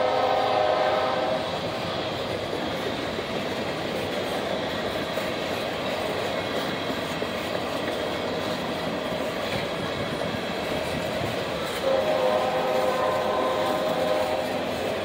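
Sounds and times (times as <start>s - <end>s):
steel wheels rumbling on rail joints: 0.0s - 15.0s.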